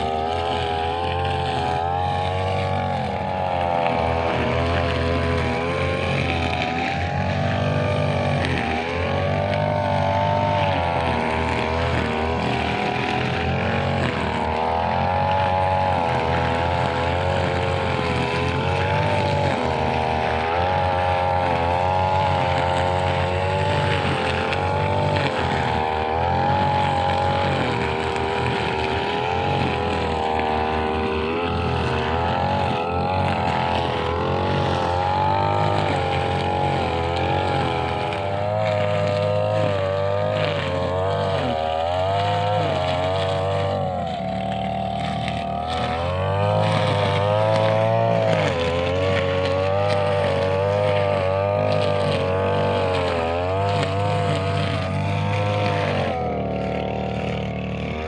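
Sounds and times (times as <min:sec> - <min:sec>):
brush cutter engine: 0:00.0 - 0:58.0.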